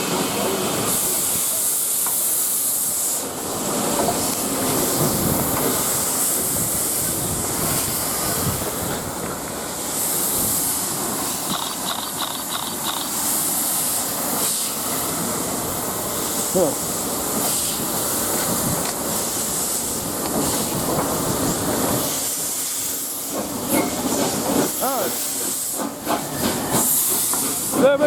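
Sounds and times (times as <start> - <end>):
steam locomotive hissing steam: 0.0 - 28.0
train rumbling: 0.0 - 28.0.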